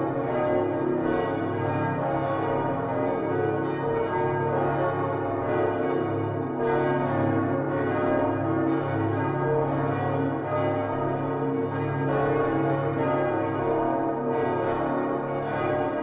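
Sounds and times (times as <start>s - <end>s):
large church bells ringing: 0.0s - 16.0s.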